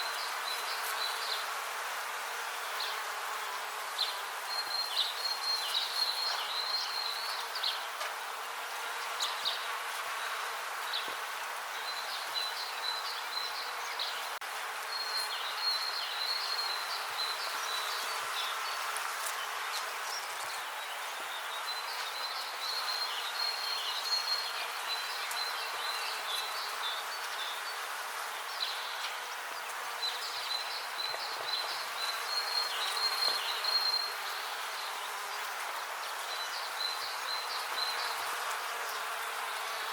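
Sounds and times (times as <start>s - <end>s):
bees buzzing: 0.1s - 39.9s.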